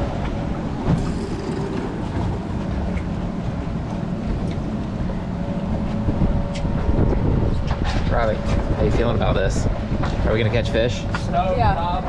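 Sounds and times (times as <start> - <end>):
outboard motors idling: 0.0 - 12.0
wind rumble on microphone: 0.0 - 12.0.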